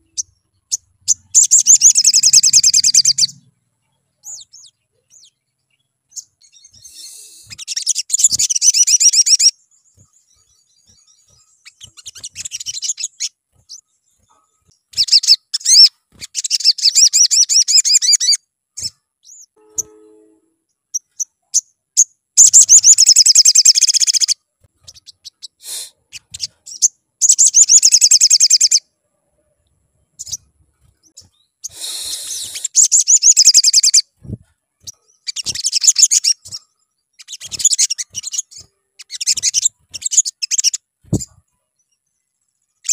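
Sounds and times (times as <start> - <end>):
sunbird twittering trills: 0.0 - 28.8, 30.1 - 42.9.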